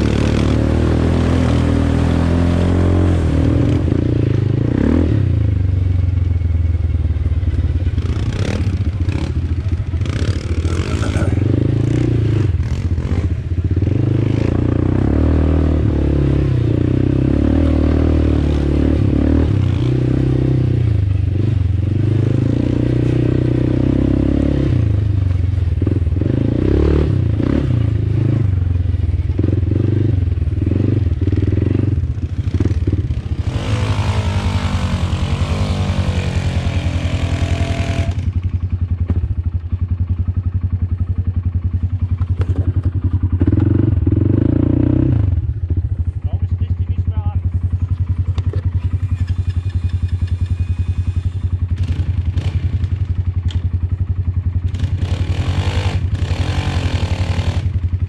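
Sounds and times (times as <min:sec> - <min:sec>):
quad engine revving and idling: 0:00.0 - 0:58.0.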